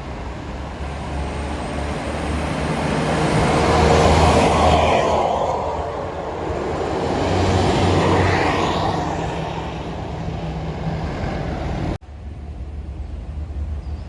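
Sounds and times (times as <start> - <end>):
quieter engine: 0.0 - 14.0.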